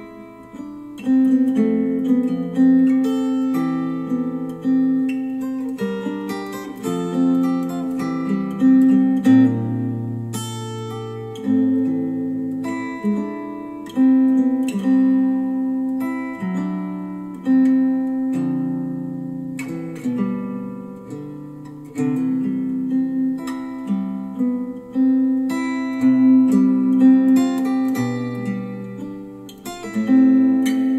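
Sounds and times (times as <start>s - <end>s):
acoustic guitar instrumental: 0.0s - 30.9s.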